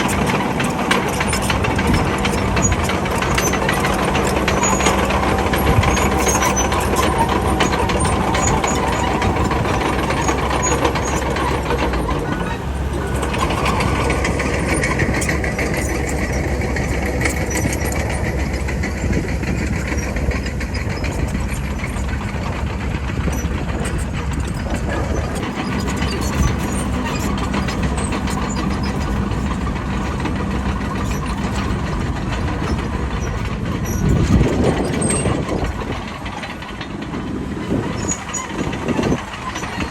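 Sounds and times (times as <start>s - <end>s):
bulldozer diesel engine running: 0.0s - 39.9s
rapid clatter of knocks: 0.0s - 39.9s.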